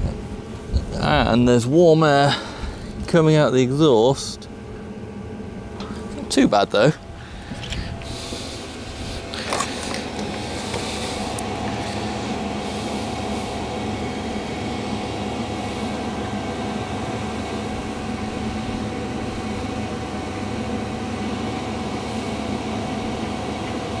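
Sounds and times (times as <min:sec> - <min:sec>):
diesel air heater running: 0:00.0 - 0:24.0.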